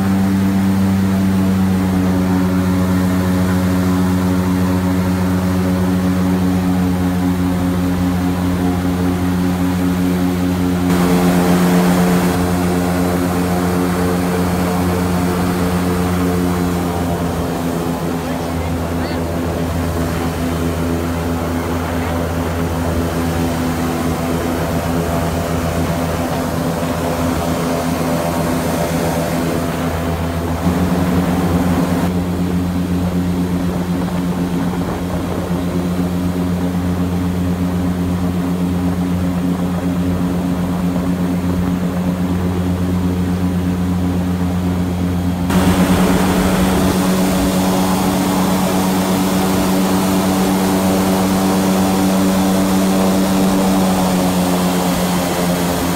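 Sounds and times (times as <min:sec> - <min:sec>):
airboat engine and propeller: 0:00.0 - 0:55.9.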